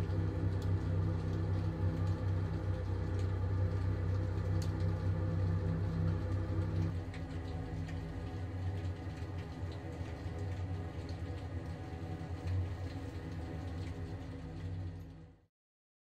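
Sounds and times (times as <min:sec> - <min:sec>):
machine humming: 0:00.0 - 0:14.9.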